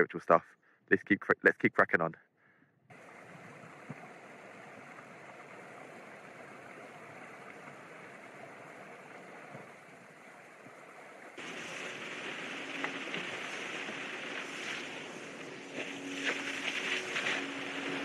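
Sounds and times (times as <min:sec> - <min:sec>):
stream running over rocks: 0:02.9 - 0:18.0.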